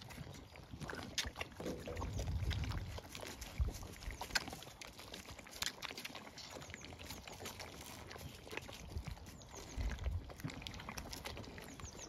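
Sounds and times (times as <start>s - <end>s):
sheep slurping water: 0.0s - 12.0s.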